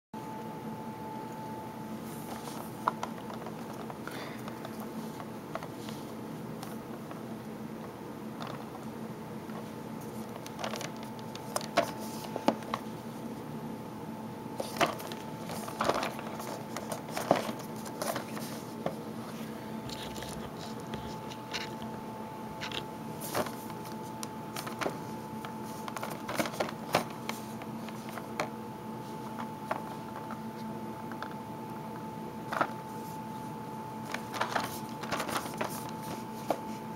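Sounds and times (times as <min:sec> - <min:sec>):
background hum: 0:00.2 - 0:36.9.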